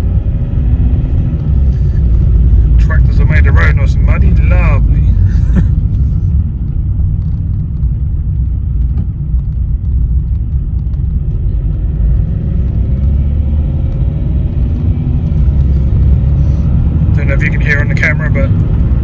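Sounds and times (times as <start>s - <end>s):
road and tyre rumble in car cabin: 0.0s - 19.0s.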